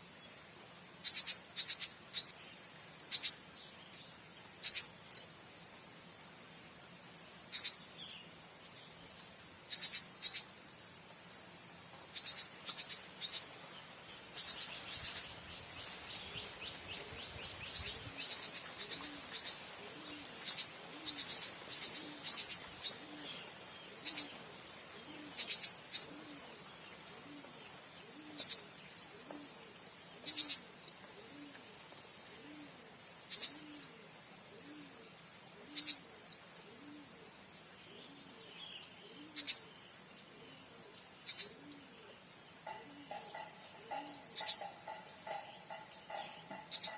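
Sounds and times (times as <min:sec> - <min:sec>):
insect drone: 0:00.0 - 0:46.9.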